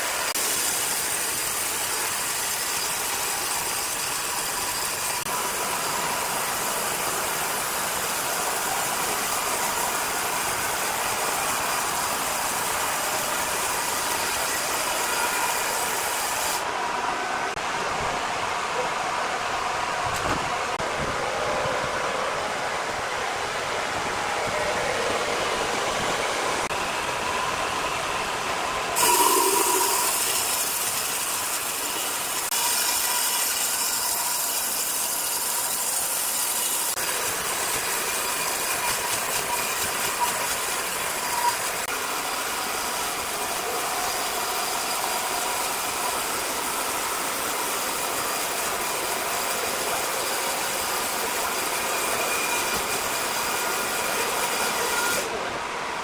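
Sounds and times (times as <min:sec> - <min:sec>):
band saw cutting log: 0:00.0 - 0:16.7, 0:25.9 - 0:55.4.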